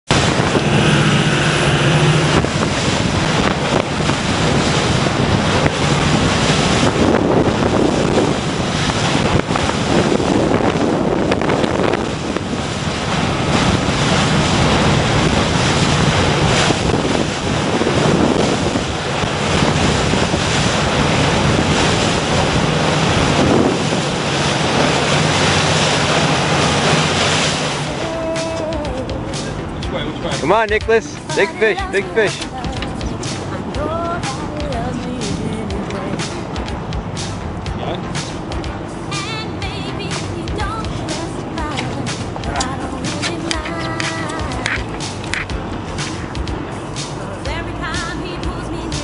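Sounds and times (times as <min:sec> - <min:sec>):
boat engine droning: 0:00.0 - 0:49.0
water rushing along hull: 0:00.0 - 0:49.0
wind buffeting microphone: 0:00.1 - 0:49.0.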